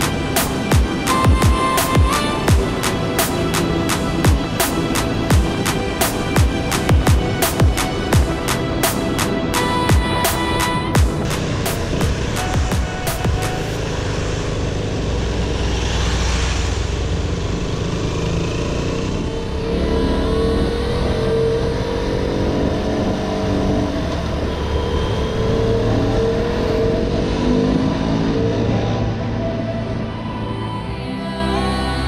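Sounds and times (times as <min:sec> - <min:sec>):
motorcycle engine accelerating: 0:00.0 - 0:30.2.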